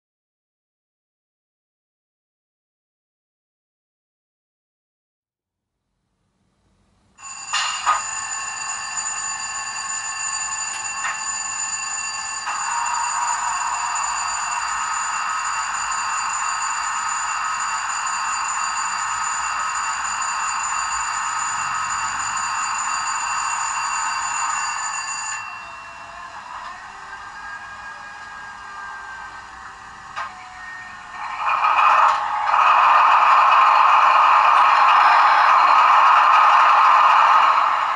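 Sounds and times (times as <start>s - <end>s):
model locomotive diesel engine sound: 7.2s - 37.9s.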